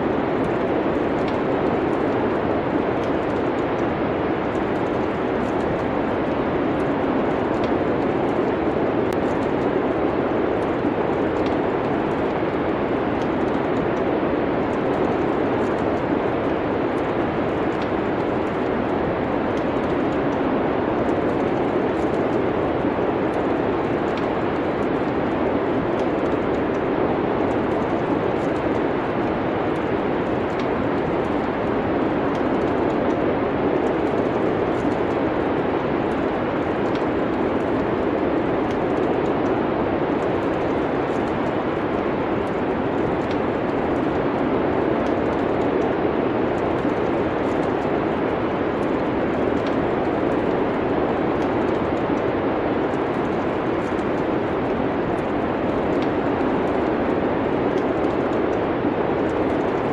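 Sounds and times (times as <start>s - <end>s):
wintry wind: 0.0s - 59.9s.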